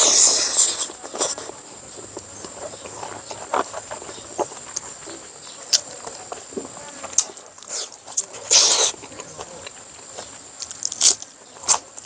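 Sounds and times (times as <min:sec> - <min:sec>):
person chewing food: 0:00.0 - 0:11.9.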